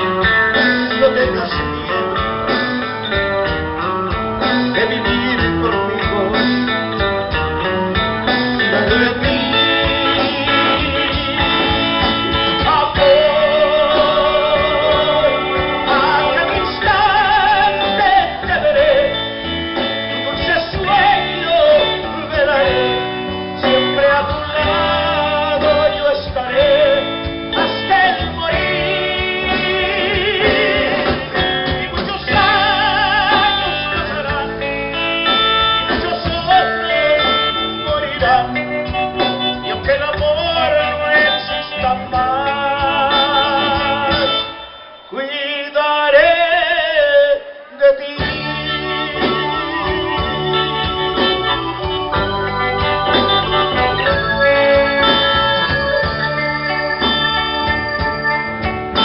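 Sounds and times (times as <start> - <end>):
wavering lead melody: 0.0 - 45.1, 48.2 - 59.0
band playing a slow love song: 0.0 - 59.0.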